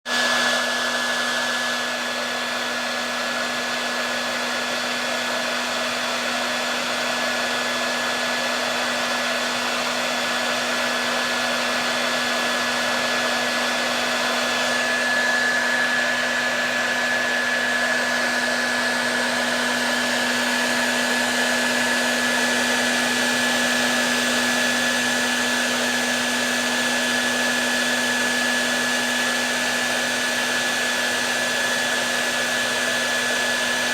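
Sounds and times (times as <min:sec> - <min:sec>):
hair dryer running: 0:00.0 - 0:33.9.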